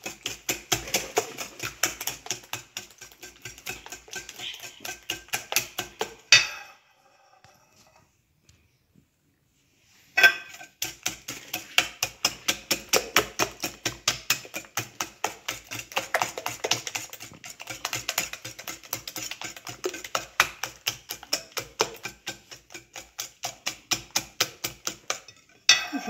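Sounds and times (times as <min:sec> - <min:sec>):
whisk clicking against glass bowl: 0:00.0 - 0:06.6, 0:10.2 - 0:25.8.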